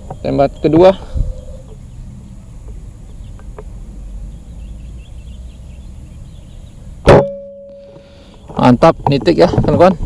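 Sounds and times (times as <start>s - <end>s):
bird chirps: 0.0s - 8.7s.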